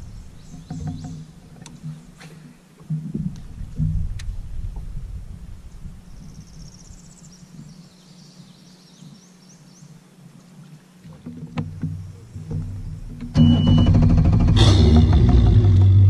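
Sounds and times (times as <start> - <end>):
faint bird song: 0.0 - 2.8, 3.5 - 13.9
water and wind rumble on hull: 0.0 - 16.0.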